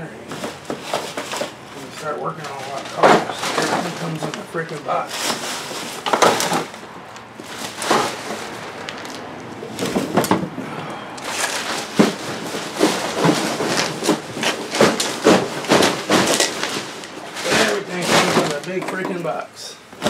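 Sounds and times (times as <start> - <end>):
cardboard boxes rustling and knocking: 0.2 - 10.6, 11.2 - 20.0.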